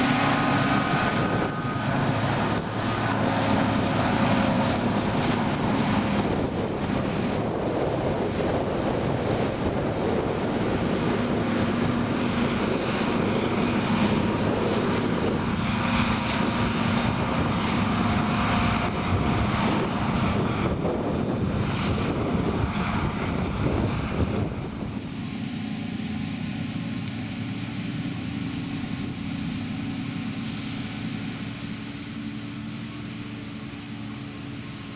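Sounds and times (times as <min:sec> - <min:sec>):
diesel machinery engine hum: 0:00.0 - 0:34.9
machinery whirr: 0:00.0 - 0:34.9.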